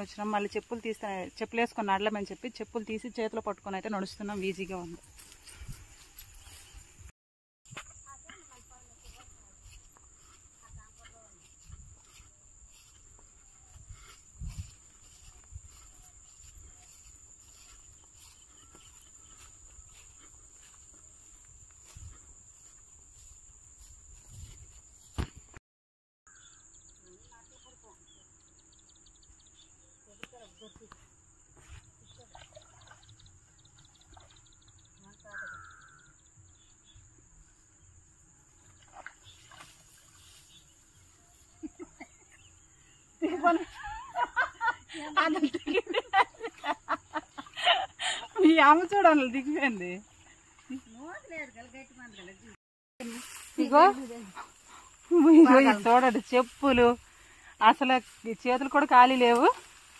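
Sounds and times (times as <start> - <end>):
insects droning: 7.7 - 25.6, 26.3 - 59.9.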